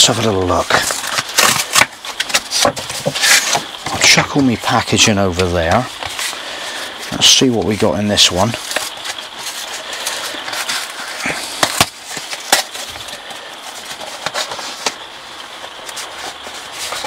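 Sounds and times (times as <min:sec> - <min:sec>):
cardboard tearing: 0:00.0 - 0:17.0
paper rustling and crinkling: 0:00.0 - 0:17.0.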